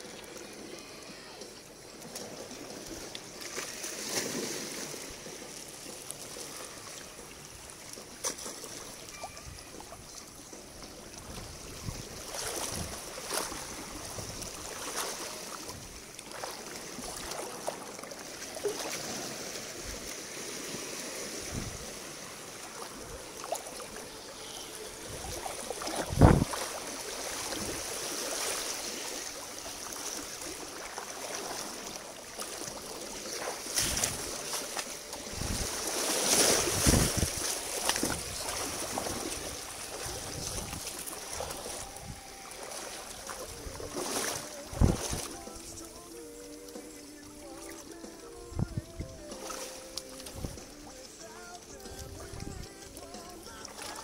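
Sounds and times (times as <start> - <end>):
stream water splashing: 0.0 - 54.0.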